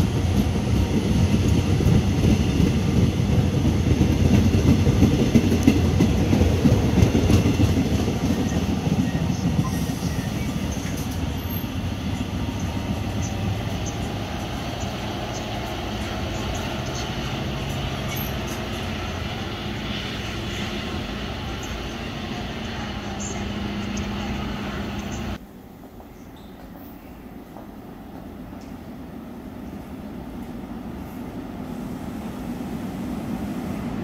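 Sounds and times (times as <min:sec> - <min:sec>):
train wheels rumbling on rails: 0:00.0 - 0:34.0
underground station hum: 0:00.0 - 0:34.0.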